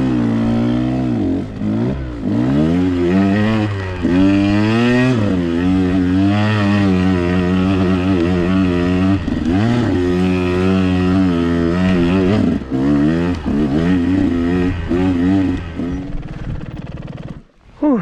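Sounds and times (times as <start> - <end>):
two-stroke engine revving: 0.0 - 17.5.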